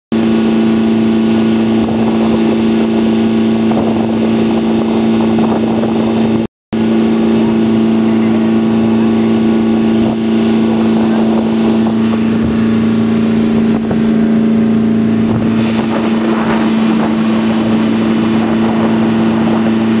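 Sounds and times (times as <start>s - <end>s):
boat engine droning: 0.1s - 20.0s.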